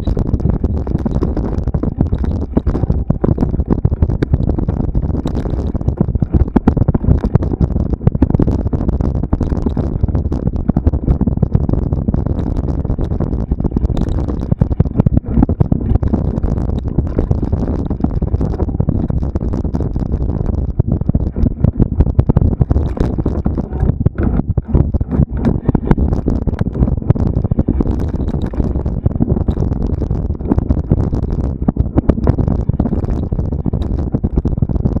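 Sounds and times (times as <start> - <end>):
mountain bike rumbling and rattling: 0.0 - 35.0.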